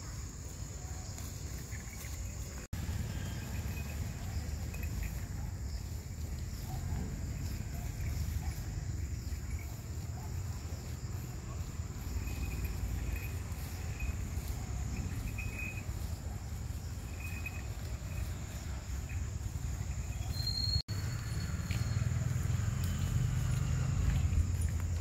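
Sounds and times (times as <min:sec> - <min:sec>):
constant low rumble: 0:00.0 - 0:20.4
high insect drone: 0:00.0 - 0:25.0
faint short insect chirps: 0:00.8 - 0:24.8.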